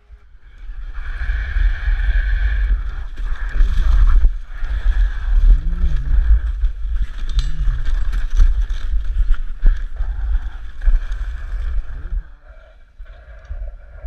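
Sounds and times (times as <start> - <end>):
sled runners scraping over snow: 0.7 - 12.4.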